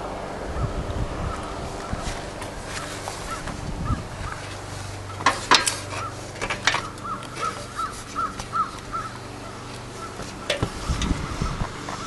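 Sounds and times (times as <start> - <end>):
bird calling: 0.5 - 12.0.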